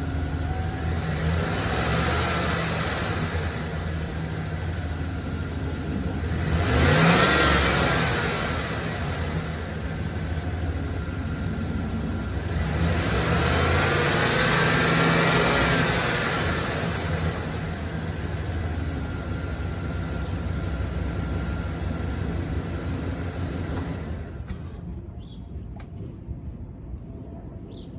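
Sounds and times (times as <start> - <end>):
van engine idling and revving: 0.0 - 27.0.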